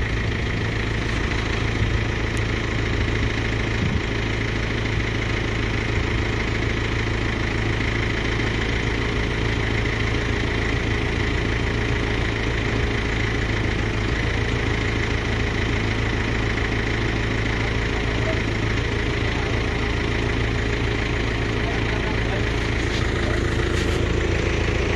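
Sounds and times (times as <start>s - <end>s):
engine idling: 0.0s - 24.9s.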